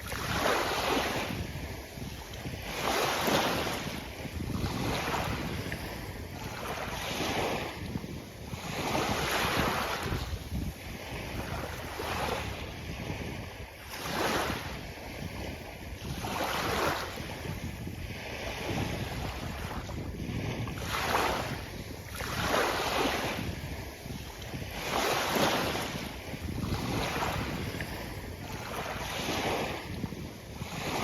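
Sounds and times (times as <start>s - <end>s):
small waves breaking on a beach: 0.0s - 31.0s.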